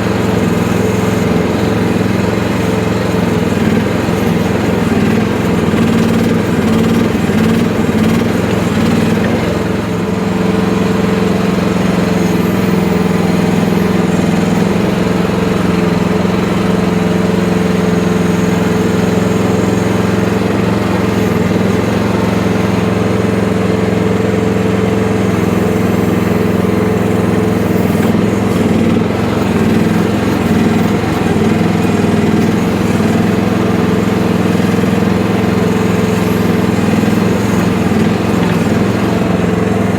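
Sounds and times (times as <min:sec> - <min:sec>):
small excavator engine droning: 0:00.0 - 0:39.9.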